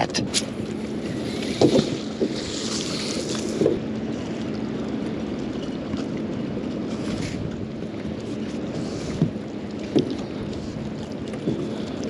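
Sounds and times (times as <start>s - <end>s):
water lapping against boat: 0.0s - 12.0s
wind buffeting microphone: 0.0s - 12.0s.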